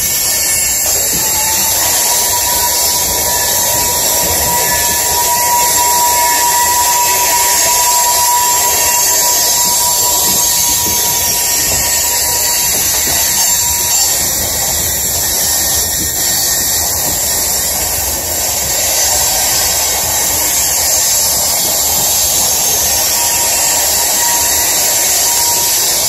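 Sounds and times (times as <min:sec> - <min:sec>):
train wheels grinding on rail: 0:00.0 - 0:26.0
wheel squeal: 0:00.0 - 0:26.0.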